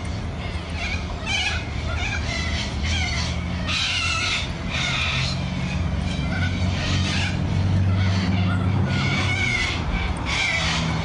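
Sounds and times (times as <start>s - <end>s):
birds screeching: 0.0s - 11.0s
steady low hum: 0.0s - 11.0s.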